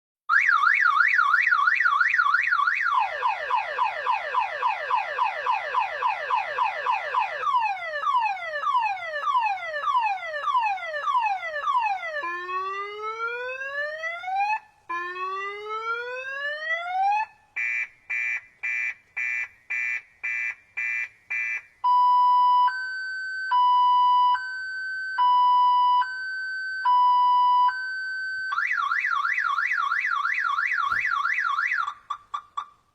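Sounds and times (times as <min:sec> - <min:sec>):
car alarm siren: 0:00.3 - 0:32.7.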